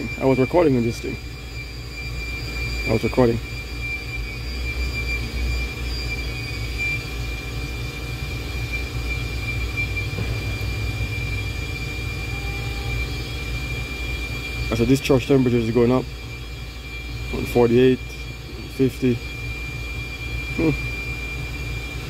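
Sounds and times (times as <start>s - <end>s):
high-pitched tone: 0.0s - 19.4s
machine hum: 0.0s - 22.0s.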